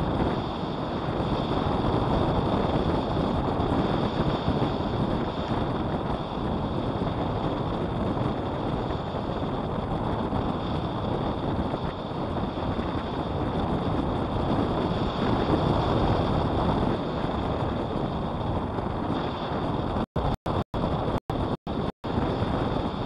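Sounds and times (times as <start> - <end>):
wind over microphone: 0.0 - 23.0.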